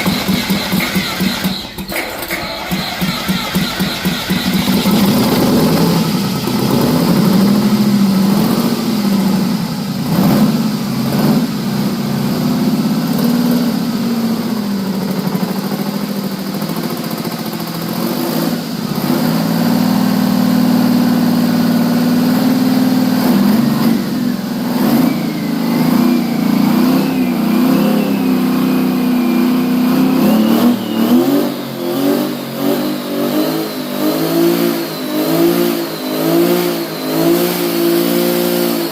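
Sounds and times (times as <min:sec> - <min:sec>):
diesel engine revving: 0:00.0 - 0:38.9
turbocharger whine: 0:00.0 - 0:38.9.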